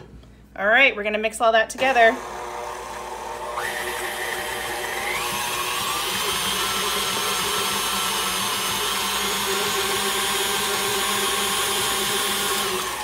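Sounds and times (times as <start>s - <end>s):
stand mixer motor whining: 1.8s - 13.0s.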